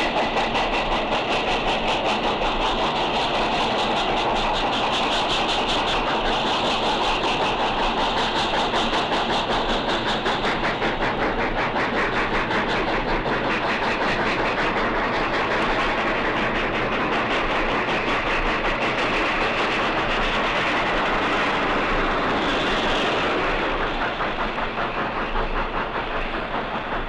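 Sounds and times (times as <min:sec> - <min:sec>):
steam locomotive exhaust beating: 0:00.0 - 0:27.0.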